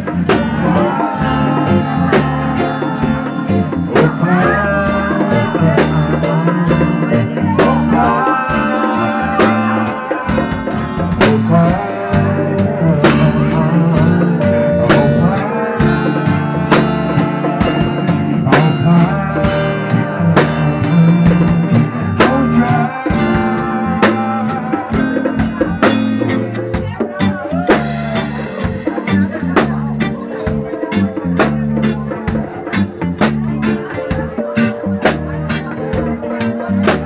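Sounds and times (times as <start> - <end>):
bass notes: 0.0 - 37.0
drum kit beat: 0.0 - 37.0
electric guitar: 0.0 - 37.0.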